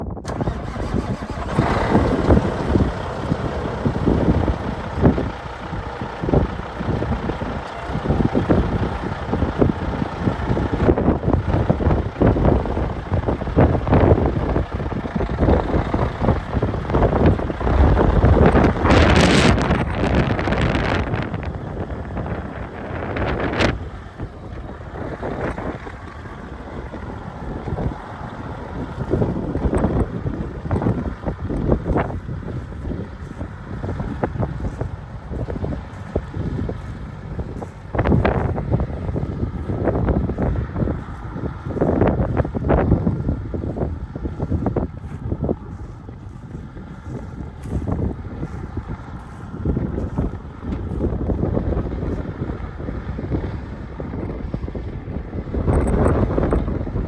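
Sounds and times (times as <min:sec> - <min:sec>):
truck engine rough rumble: 0:00.0 - 0:57.0
wind buffeting microphone: 0:00.0 - 0:57.0
irregular low thumps: 0:02.4 - 0:49.0.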